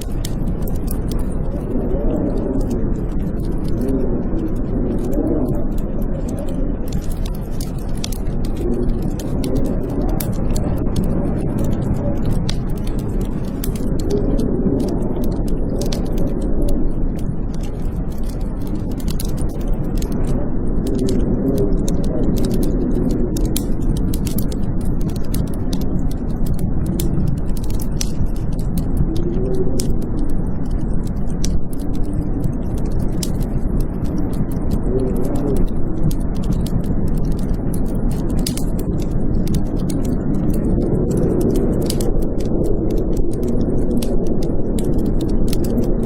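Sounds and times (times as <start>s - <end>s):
blizzard wind howling: 0.0s - 46.0s
wood fire crackling: 0.0s - 46.0s.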